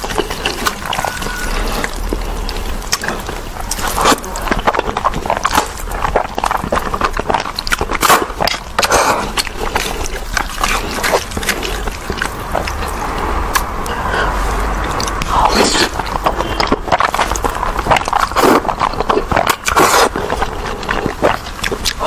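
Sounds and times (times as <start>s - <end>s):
noodles slurped and chewed: 0.0s - 22.0s.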